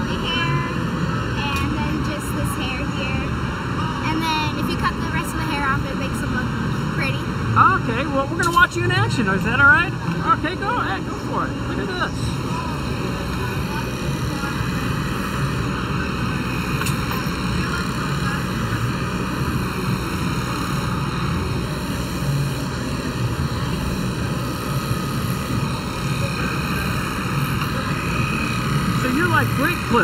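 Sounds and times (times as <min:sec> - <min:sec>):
electric clippers buzzing: 0:00.0 - 0:30.0.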